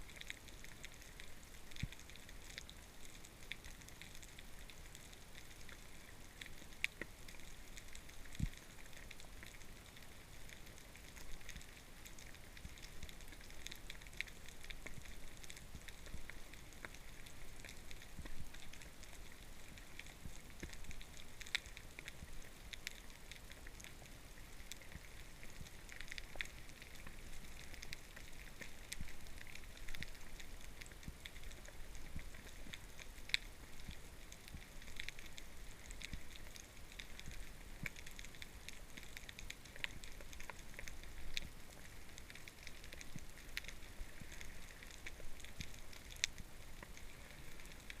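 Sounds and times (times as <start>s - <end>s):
underwater crackling clicks: 0.0s - 48.0s.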